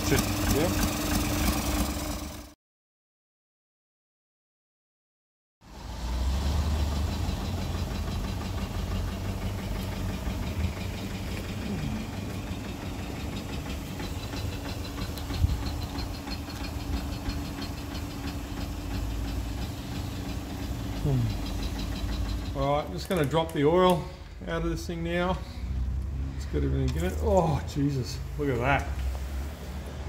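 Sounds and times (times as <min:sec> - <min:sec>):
diesel engine idling: 0:00.0 - 0:02.5, 0:05.7 - 0:30.0.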